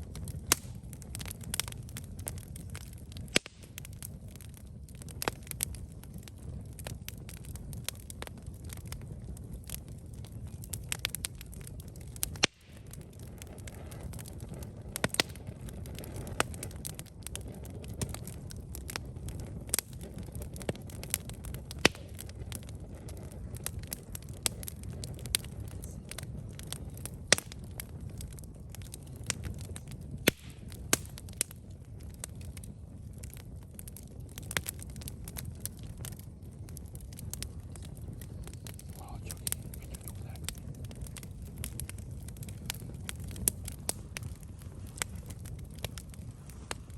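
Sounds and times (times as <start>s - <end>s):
wood campfire crackling: 0.0s - 46.9s.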